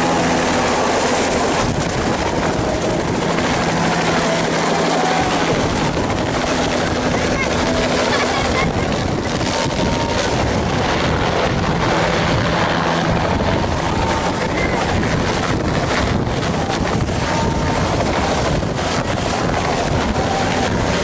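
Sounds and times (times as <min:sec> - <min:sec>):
helicopter engine and rotor: 0:00.0 - 0:21.0
wind buffeting microphone: 0:00.0 - 0:21.0.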